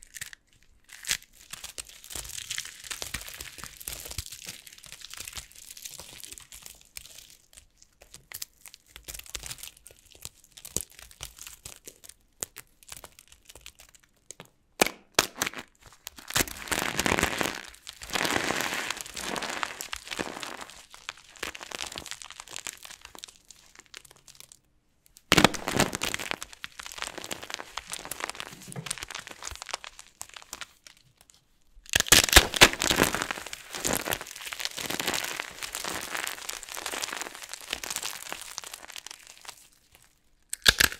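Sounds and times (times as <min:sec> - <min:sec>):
dried soap crunching and crackling: 0:00.0 - 0:40.9.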